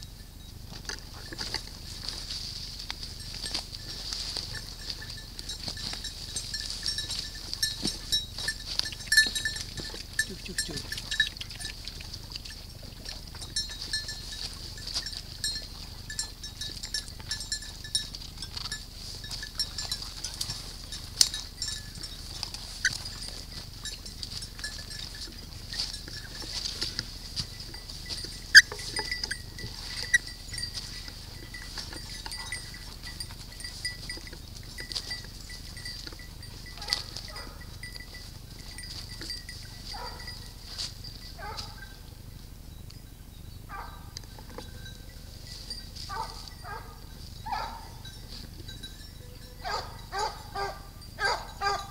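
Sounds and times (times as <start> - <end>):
small bells jingling: 0.0 - 51.9
footsteps through dry leaves: 1.1 - 42.2, 45.3 - 48.6.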